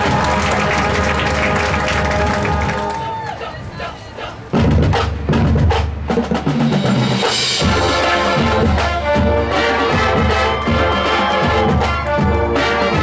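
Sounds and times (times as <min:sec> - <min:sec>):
band's held wind chords: 0:00.0 - 0:13.0
marching drumline and bass drums: 0:00.0 - 0:13.0.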